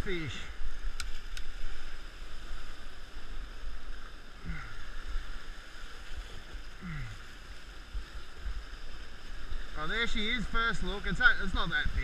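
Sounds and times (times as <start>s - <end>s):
surf washing around rocks: 0.0s - 12.0s.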